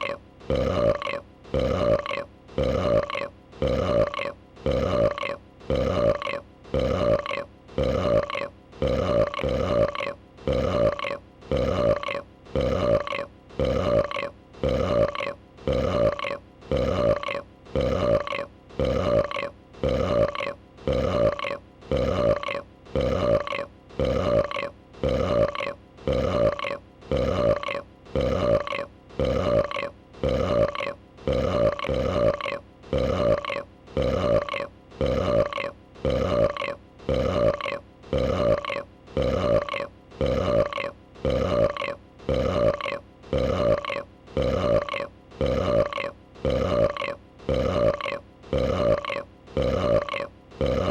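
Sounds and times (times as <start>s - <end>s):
repeated creature burps: 0.0s - 50.9s.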